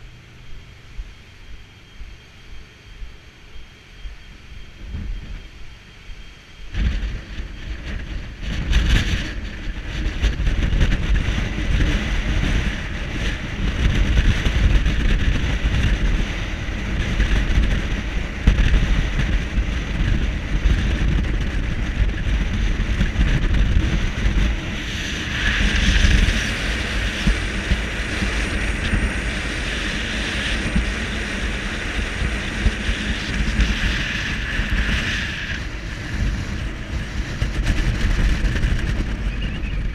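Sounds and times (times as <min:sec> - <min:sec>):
heavy rumble: 0:00.0 - 0:39.9
hiss of wind and sea: 0:00.0 - 0:39.9
wind buffeting microphone: 0:00.0 - 0:39.9.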